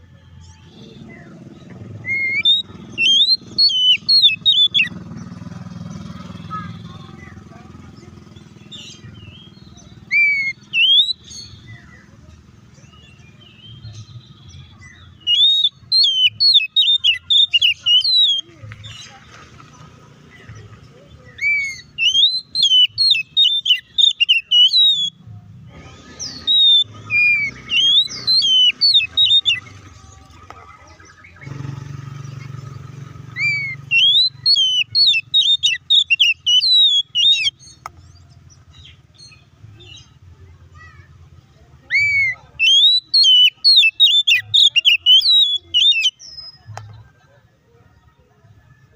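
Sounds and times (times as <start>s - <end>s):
bird singing whistled notes: 0.0s - 7.4s, 8.4s - 12.2s, 12.8s - 19.2s, 21.2s - 25.3s, 26.0s - 29.9s, 30.9s - 40.2s, 41.8s - 46.7s.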